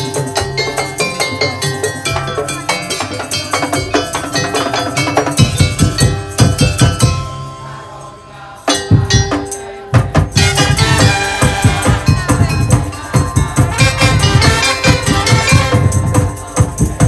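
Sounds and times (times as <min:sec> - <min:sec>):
percussion ensemble playing: 0:00.0 - 0:17.0.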